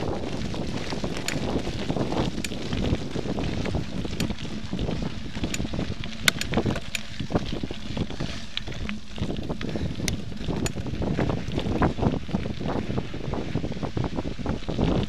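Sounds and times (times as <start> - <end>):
bike rattling over stones: 0.0 - 15.0
tyres rumbling on gravel: 0.0 - 15.0
wind buffeting microphone: 0.0 - 15.0.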